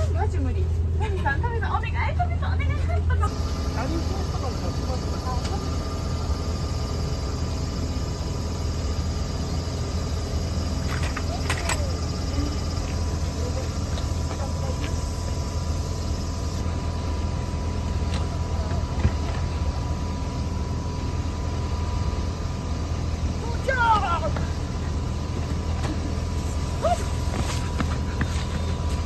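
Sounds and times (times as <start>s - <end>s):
coach engine idling: 3.0s - 29.0s.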